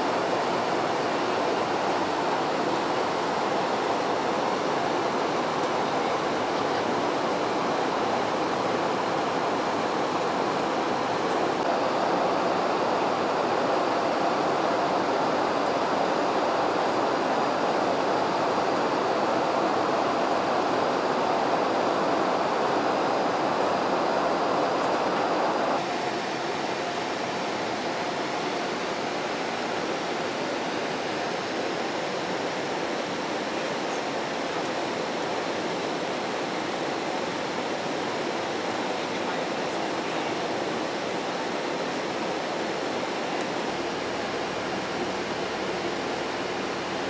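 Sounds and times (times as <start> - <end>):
airliner cabin noise in flight: 0.0 - 47.0.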